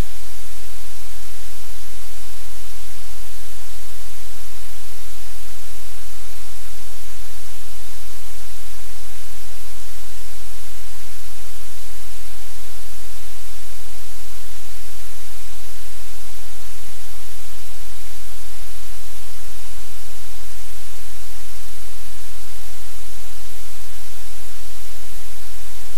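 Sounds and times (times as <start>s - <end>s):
static-like hiss: 0.0s - 25.9s.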